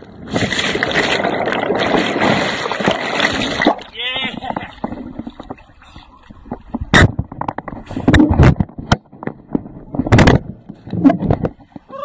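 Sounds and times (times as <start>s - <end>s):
water splashing on camera: 0.0s - 12.0s.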